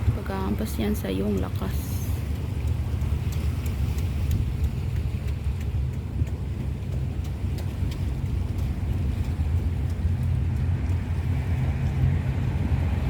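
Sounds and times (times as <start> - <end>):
waves washing against shore: 0.0 - 13.0
wind buffeting microphone: 0.0 - 13.0
faint ticks: 0.6 - 12.0.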